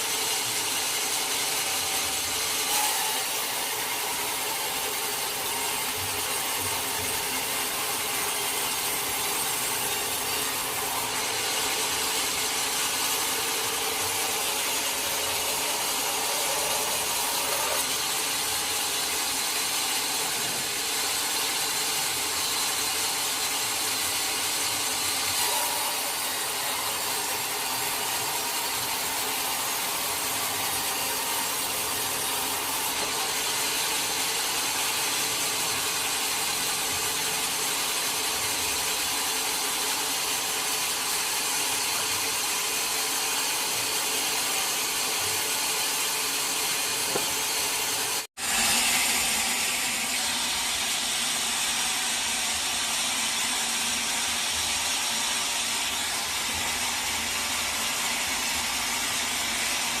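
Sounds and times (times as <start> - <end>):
sawmill saw running: 0.0 - 60.0.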